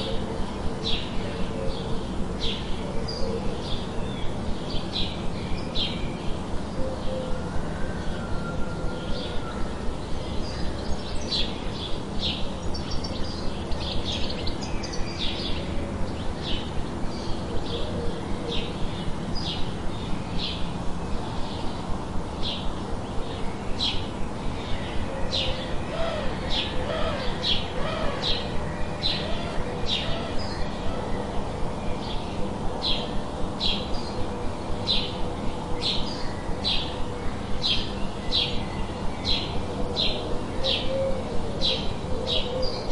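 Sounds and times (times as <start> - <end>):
steady background noise: 0.0 - 42.9.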